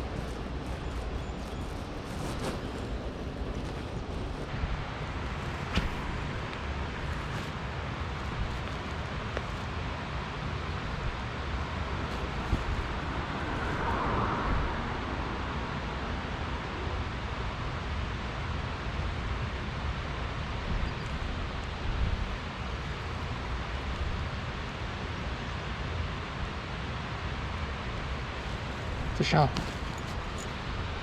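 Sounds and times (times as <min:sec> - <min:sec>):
low traffic rumble: 0:00.0 - 0:31.0.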